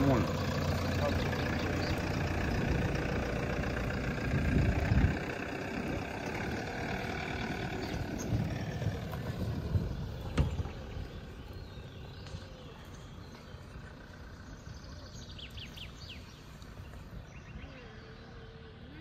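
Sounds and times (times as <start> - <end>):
bird chirps: 0.0 - 3.1, 6.2 - 19.0
truck engine driving away: 0.0 - 19.0.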